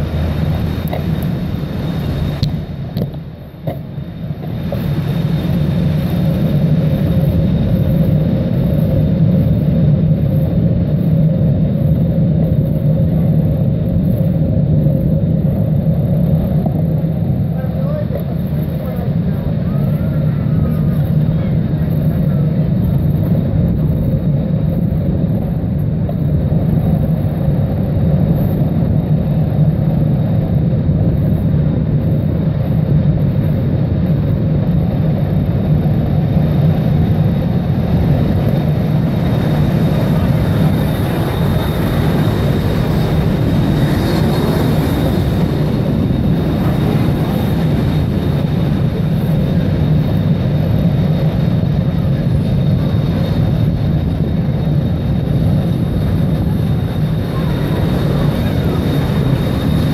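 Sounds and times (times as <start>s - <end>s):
street traffic: 0.0s - 59.9s
wind noise on microphone: 0.0s - 59.9s.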